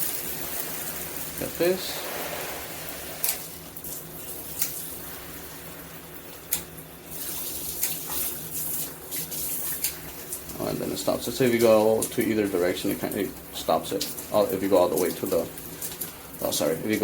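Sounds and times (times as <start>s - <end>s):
water spraying from shower head: 0.0s - 16.7s.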